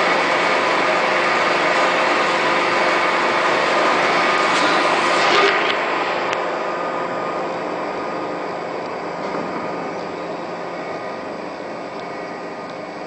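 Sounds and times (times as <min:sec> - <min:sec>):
faint hum tones: 0:00.0 - 0:13.0
machinery rushing noise: 0:00.0 - 0:13.0.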